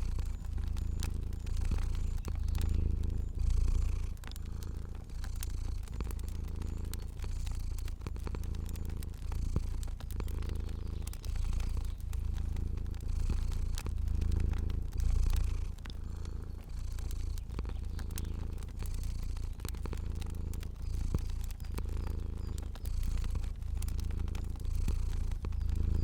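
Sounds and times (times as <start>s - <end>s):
cat purring: 0.0s - 26.0s
crackling fire snaps: 0.0s - 26.0s.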